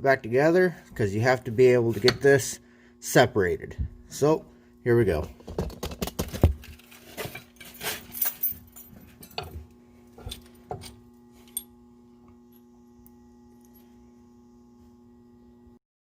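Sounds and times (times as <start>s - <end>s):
faint steady hum: 0.0s - 15.8s.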